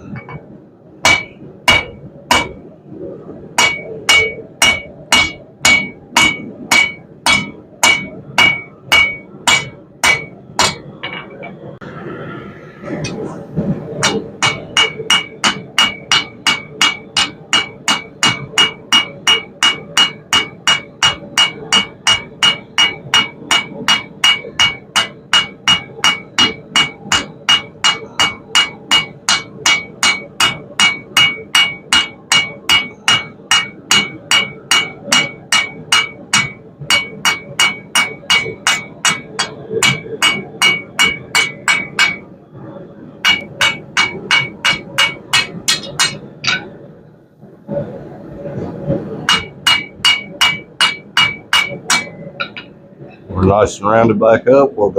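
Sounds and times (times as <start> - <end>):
hammer striking steel on anvil: 1.0 - 2.6, 3.6 - 11.5, 14.0 - 42.3, 43.2 - 46.8, 49.2 - 52.7.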